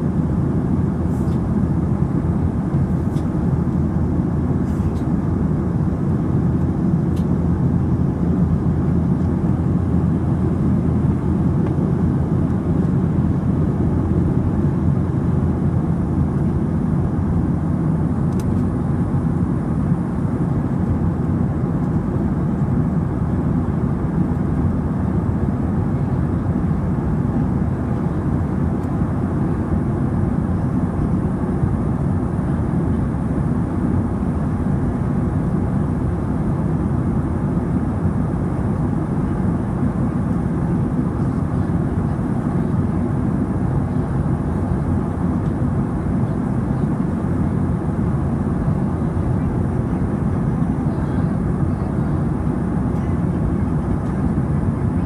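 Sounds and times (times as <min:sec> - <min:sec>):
airplane engines roaring: 0:00.0 - 0:55.0.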